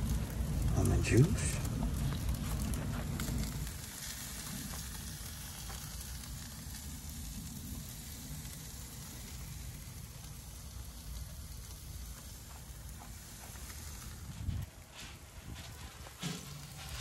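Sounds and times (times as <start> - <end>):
food sizzling on a grill: 0.0 - 14.6, 15.5 - 17.0
low steady rumble: 0.0 - 17.0.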